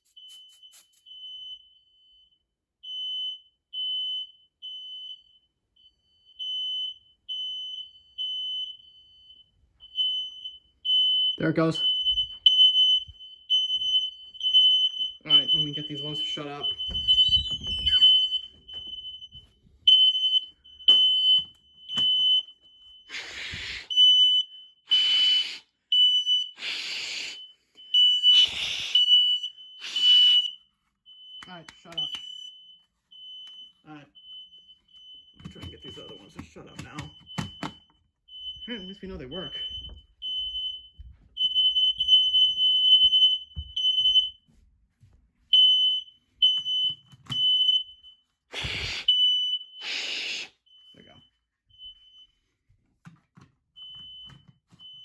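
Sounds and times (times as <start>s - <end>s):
smoke alarms beeping: 0.0s - 44.5s, 45.5s - 52.7s, 53.7s - 55.0s.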